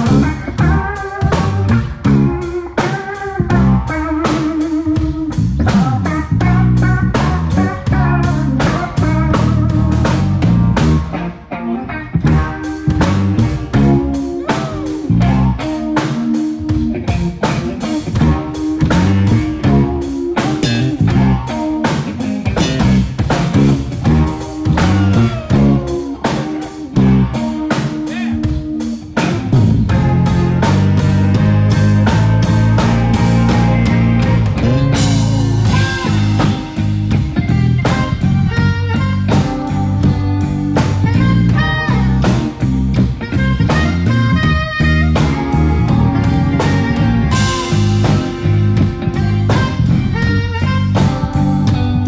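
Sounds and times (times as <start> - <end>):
bass line: 0.0 - 52.0
drum kit: 0.0 - 52.0
electric guitar: 0.0 - 52.0.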